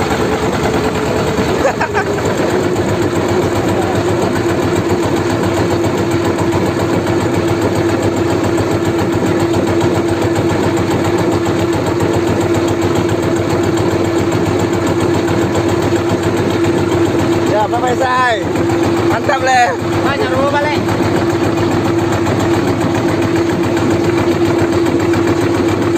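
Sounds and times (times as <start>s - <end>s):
engine humming steadily: 0.0s - 25.9s.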